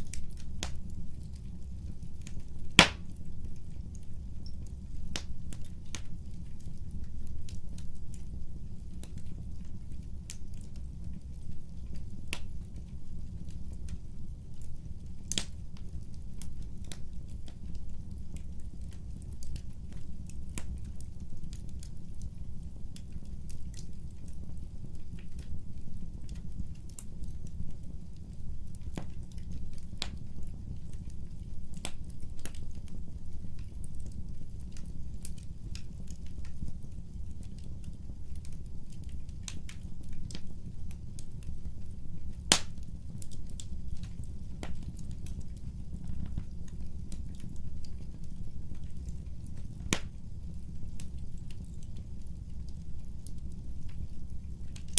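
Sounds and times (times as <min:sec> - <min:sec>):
fire crackles and pops: 0:00.0 - 0:54.9
wood fire rumbling: 0:00.0 - 0:54.9.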